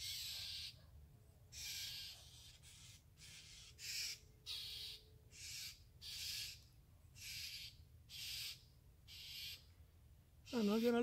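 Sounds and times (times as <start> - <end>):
bird harsh scolding calls: 0.0 - 0.8, 1.5 - 9.7, 10.5 - 11.0.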